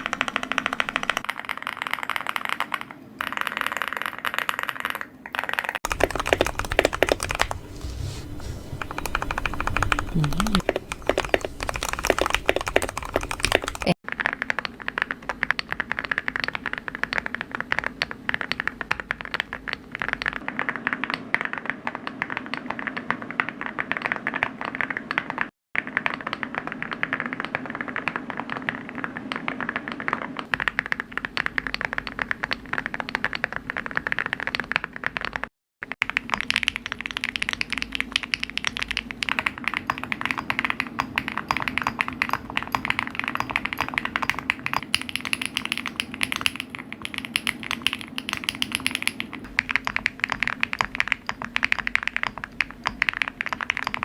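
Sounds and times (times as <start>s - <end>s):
fast keyboard typing: 0.0s - 54.0s.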